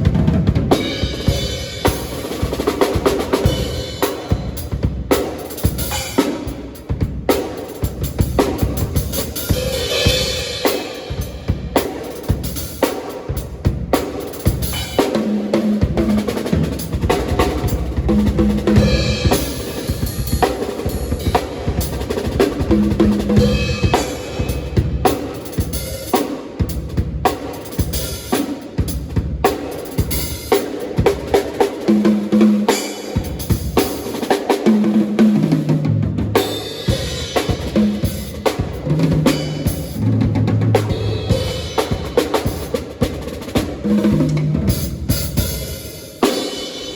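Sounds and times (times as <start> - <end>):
drum fills: 0.0 - 46.9.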